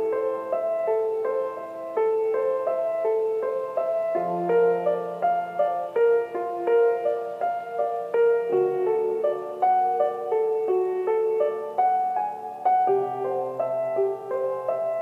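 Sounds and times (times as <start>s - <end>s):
gentle piano piece: 0.0s - 15.0s.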